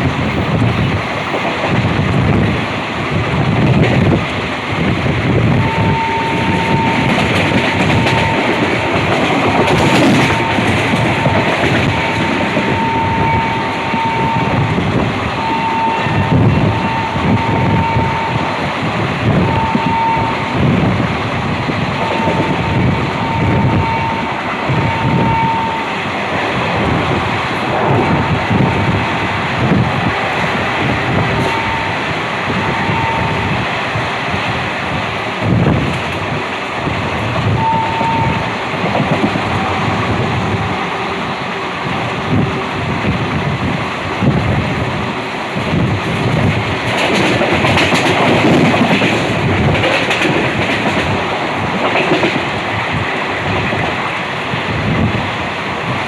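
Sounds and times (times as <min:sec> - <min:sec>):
train wheels rumbling on rails: 0:00.0 - 0:56.0
wind buffeting microphone: 0:00.0 - 0:56.0.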